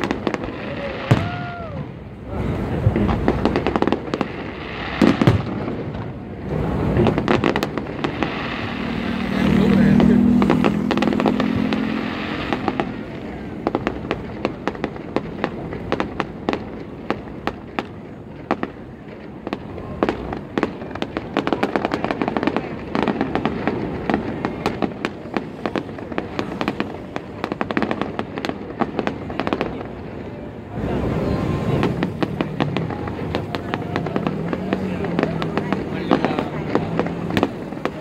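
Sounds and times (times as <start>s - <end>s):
fireworks popping and banging: 0.0s - 38.0s.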